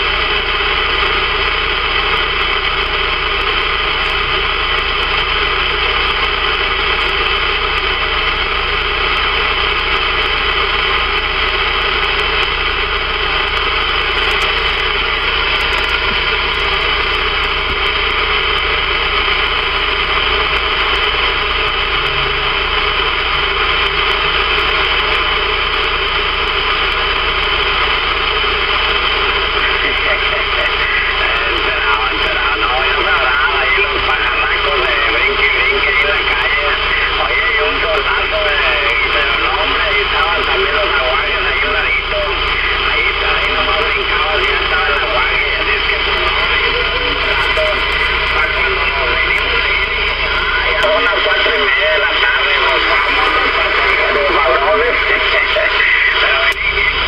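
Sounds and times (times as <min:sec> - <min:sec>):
faint steady carrier tones: 0:00.0 - 0:57.0
radio static hiss: 0:00.0 - 0:57.0.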